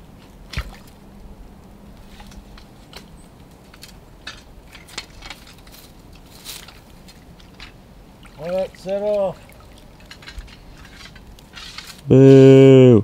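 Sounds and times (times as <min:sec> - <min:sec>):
stake and wire clicking and rustling: 0:00.0 - 0:12.1.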